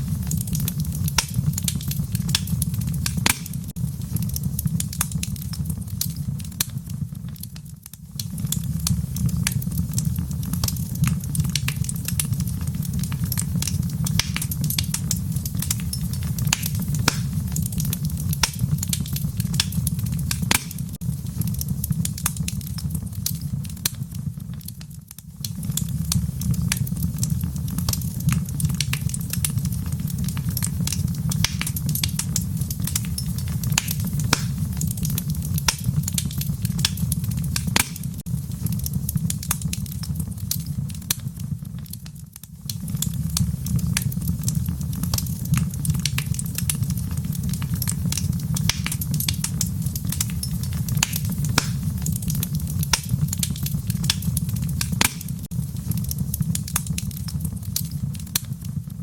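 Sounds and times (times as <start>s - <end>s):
low rumble of burning: 0.0s - 59.0s
wood fire crackling: 0.0s - 59.0s
sharp pops and snaps: 0.2s - 58.7s.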